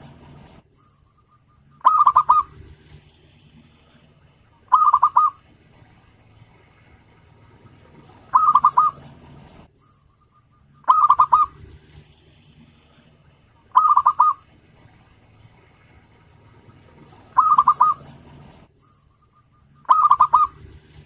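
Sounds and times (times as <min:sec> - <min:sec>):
dove cooing: 0:00.0 - 0:10.0, 0:10.6 - 0:21.0.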